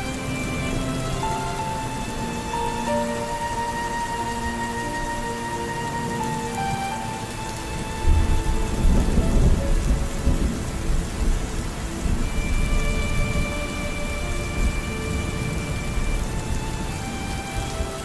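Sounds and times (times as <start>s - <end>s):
rolling thunder rumble: 0.0s - 18.0s
soft background music: 0.0s - 18.0s
steady rain: 0.0s - 18.0s.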